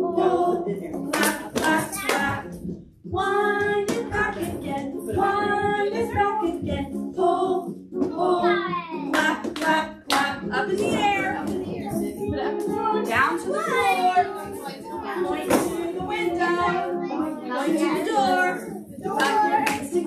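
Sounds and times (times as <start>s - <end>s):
children's song with singing: 0.0s - 20.0s.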